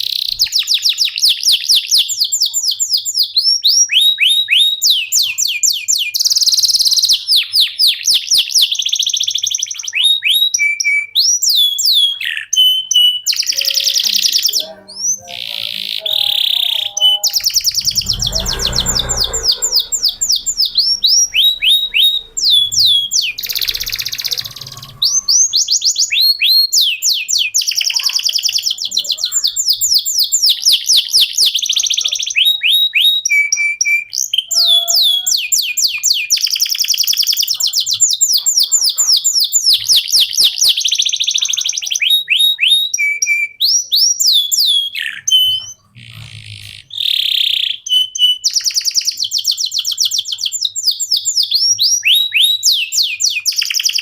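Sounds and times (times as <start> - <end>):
canary singing whistles and trills: 0.0 - 54.0.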